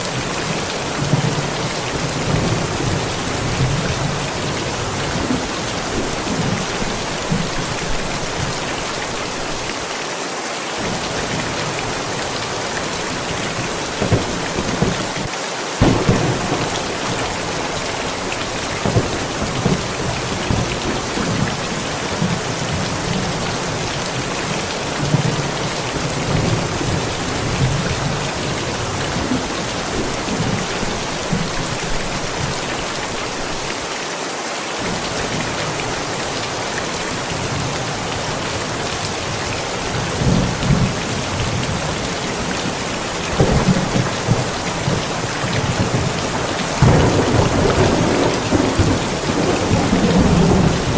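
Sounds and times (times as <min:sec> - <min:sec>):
thunder rumbling: 0:00.0 - 0:09.7, 0:10.8 - 0:33.6, 0:34.8 - 0:50.9
heavy rain falling: 0:00.0 - 0:50.9.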